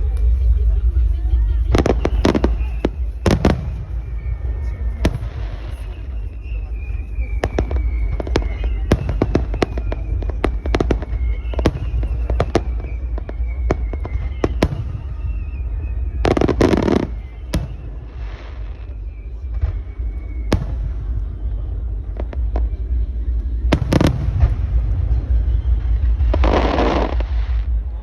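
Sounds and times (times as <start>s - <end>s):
fireworks bursting with sharp bangs: 0.0s - 28.0s.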